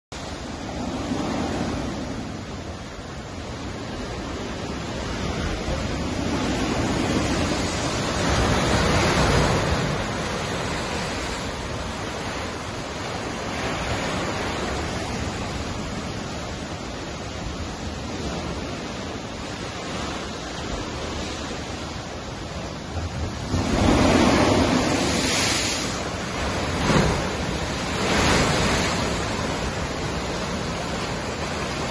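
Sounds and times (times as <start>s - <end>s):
surf breaking over rocks: 0.2s - 31.9s.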